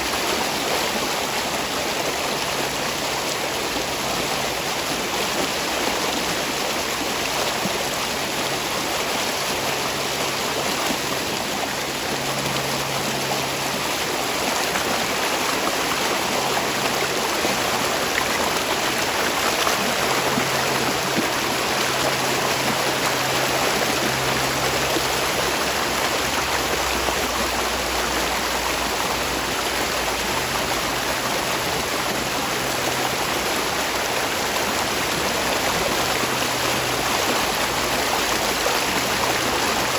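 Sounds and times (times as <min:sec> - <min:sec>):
spring water running: 0:00.0 - 0:39.9.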